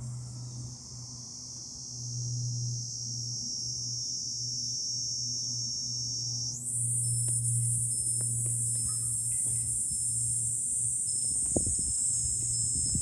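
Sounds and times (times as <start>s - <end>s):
cicadas buzzing: 0.2s - 13.0s.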